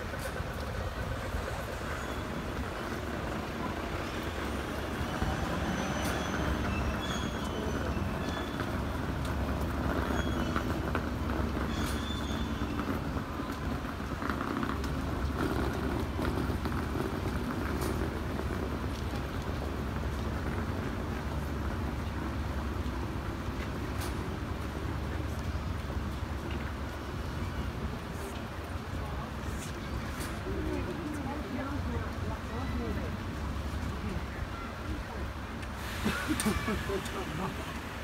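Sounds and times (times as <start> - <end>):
low crowd rumble: 0.0 - 38.0
shuffle of many feet: 0.0 - 38.0.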